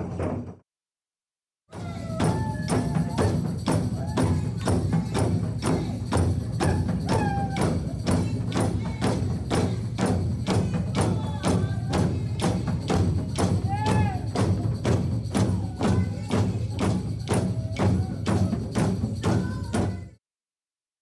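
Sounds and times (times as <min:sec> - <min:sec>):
frame drums beating: 0:01.7 - 0:20.2
tambourine jingles: 0:01.8 - 0:20.2
voices: 0:01.8 - 0:20.2.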